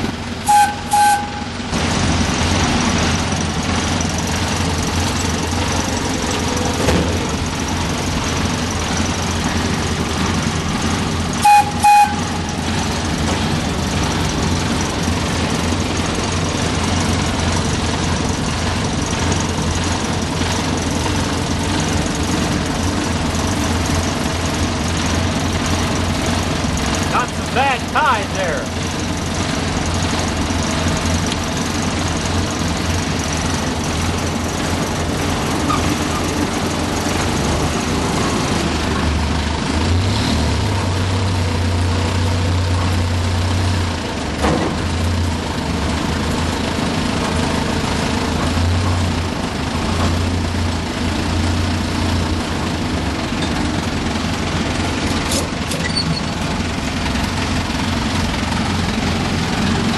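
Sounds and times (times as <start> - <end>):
locomotive engine running: 0.0 - 59.9.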